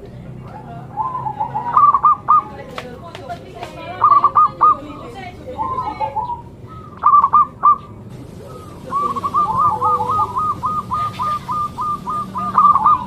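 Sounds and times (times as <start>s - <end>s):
dove cooing: 0.0s - 2.8s, 3.7s - 13.0s.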